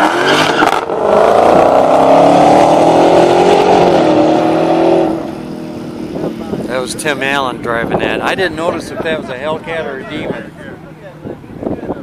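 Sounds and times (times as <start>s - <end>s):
car engine accelerating hard: 0.0s - 11.2s.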